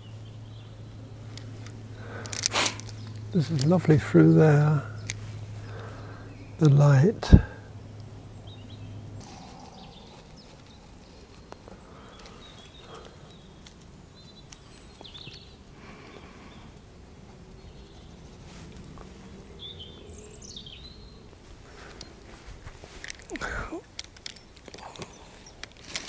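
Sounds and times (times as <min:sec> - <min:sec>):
low background rush: 0:00.0 - 0:26.0
small birds chirping: 0:00.0 - 0:26.0.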